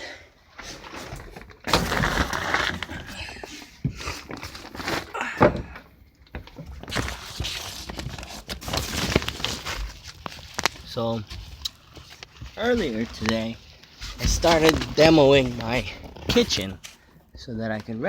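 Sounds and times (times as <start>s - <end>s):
rustling and handling noise: 0.5s - 18.0s.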